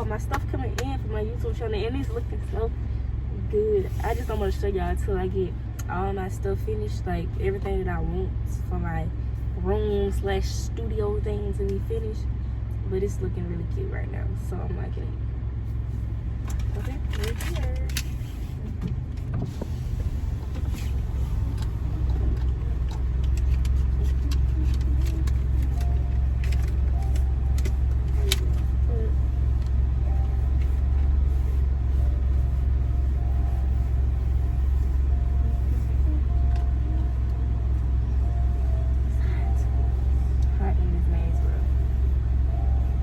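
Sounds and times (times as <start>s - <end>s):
car engine rumble inside cabin: 0.0s - 43.0s.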